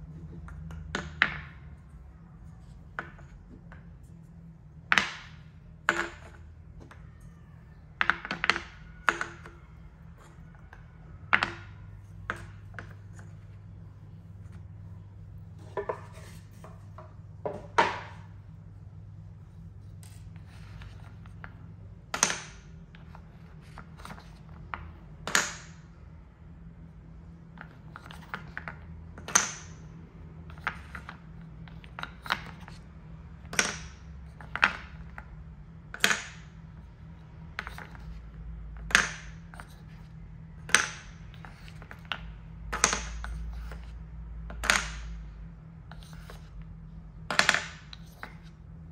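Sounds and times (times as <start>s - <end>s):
steady low hum: 0.0s - 48.9s
wooden balls clacking: 0.1s - 1.9s, 4.8s - 14.8s, 15.5s - 18.4s, 20.0s - 26.0s, 27.5s - 46.6s, 47.2s - 48.6s.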